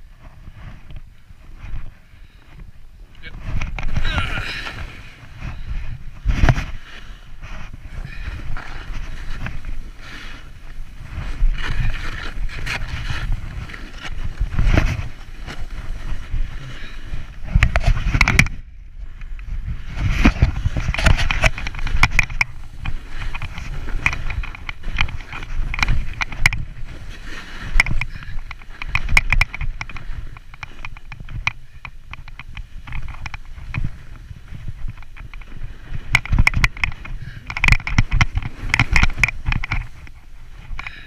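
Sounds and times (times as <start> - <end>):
snowboard scraping snow: 0.0 - 18.2, 19.4 - 41.0
wind buffeting microphone: 0.0 - 41.0.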